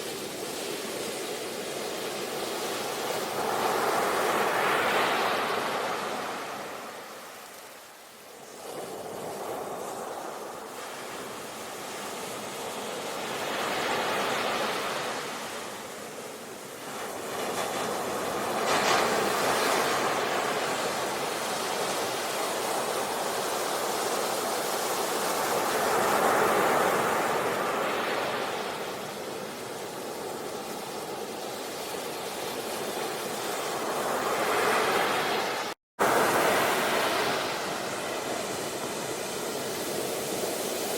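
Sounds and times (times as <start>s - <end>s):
waves breaking and washing in: 0.0s - 40.9s.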